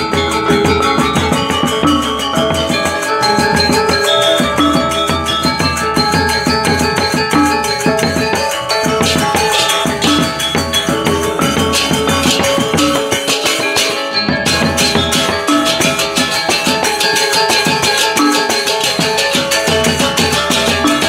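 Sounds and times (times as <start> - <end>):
gamelan metallophones ringing: 0.0 - 21.0
hand drums beating: 0.0 - 21.0.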